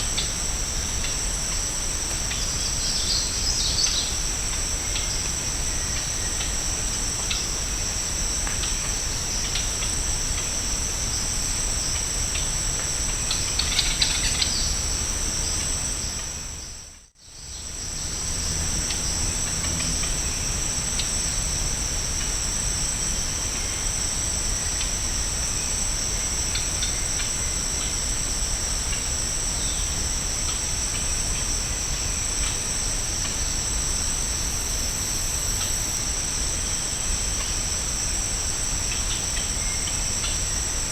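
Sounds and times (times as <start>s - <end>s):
shrill insect chorus: 0.0s - 40.9s.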